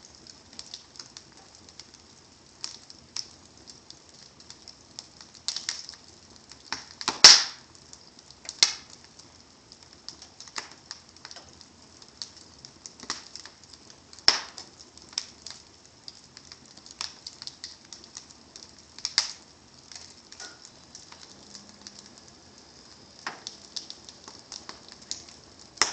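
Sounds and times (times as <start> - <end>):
faint steady hiss: 0.0 - 25.9
wood fire crackling and popping: 0.0 - 25.9.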